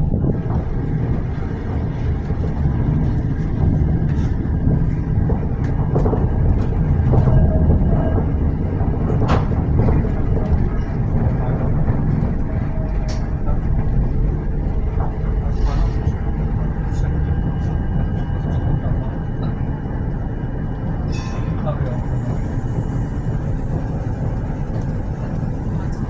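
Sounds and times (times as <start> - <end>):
tram rumbling on track: 0.0 - 26.0.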